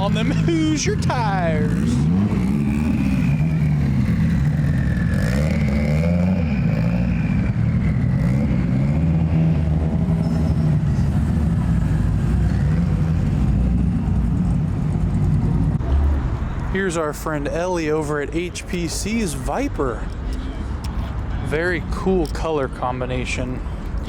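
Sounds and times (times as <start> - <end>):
car engines rumbling: 0.0 - 24.0.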